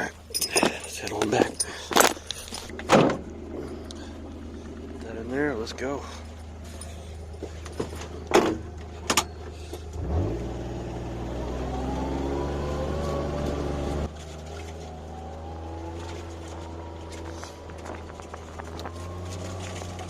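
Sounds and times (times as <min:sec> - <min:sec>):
utility vehicle engine revving: 0:02.0 - 0:20.0.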